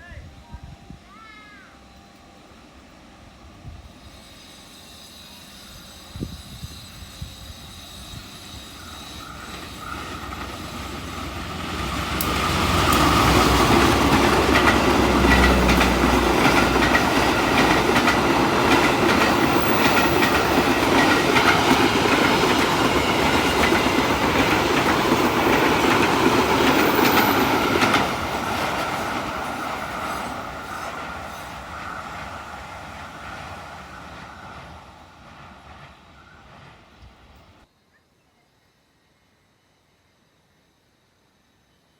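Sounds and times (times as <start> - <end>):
train rumble and wheel clatter: 1.8 - 37.7.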